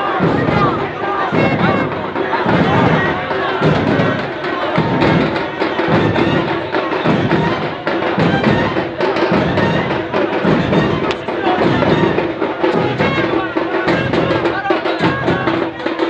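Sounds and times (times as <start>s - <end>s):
crowd of men chanting: 0.0s - 16.0s
thumping beat: 0.0s - 16.0s.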